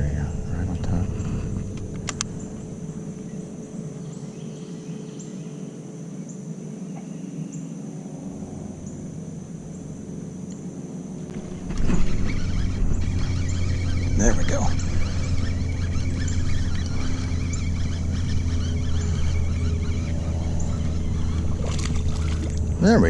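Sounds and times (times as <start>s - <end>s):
low rumble: 0.0s - 4.1s, 8.0s - 23.0s
high-pitched insect drone: 0.0s - 23.0s.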